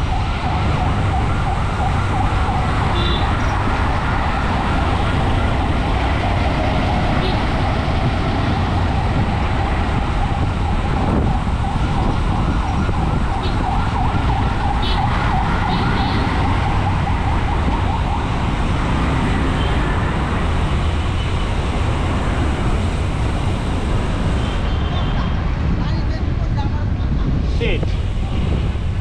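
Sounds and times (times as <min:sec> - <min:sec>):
wavering siren: 0:00.0 - 0:24.7
busy road traffic: 0:00.0 - 0:29.0
wind on microphone: 0:00.0 - 0:29.0.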